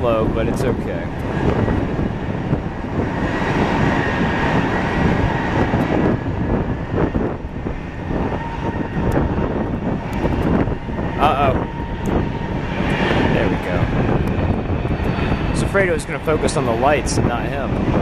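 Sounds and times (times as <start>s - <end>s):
jet airliner engines roaring: 0.0s - 18.0s
thin engine whine: 0.0s - 18.0s.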